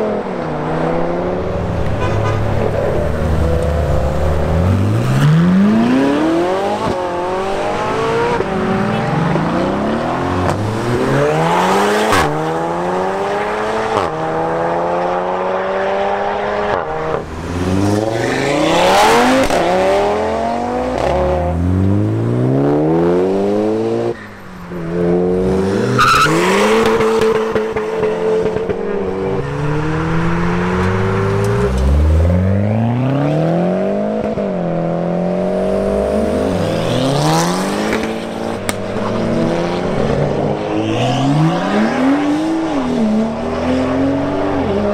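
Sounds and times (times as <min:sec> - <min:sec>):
cars accelerating hard: 0:00.0 - 0:24.2, 0:24.8 - 0:44.9.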